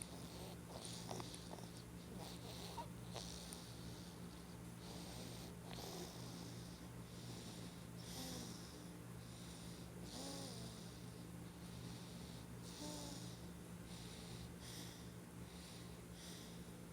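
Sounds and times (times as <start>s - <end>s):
hissy snoring breaths: 0.0s - 16.8s
steady low hum: 0.0s - 16.9s.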